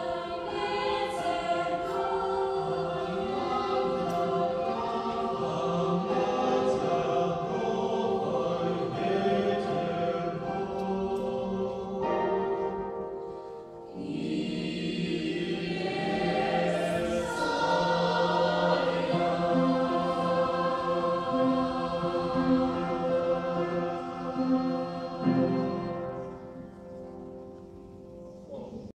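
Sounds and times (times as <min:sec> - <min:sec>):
church choir singing a hymn: 0:00.0 - 0:28.9.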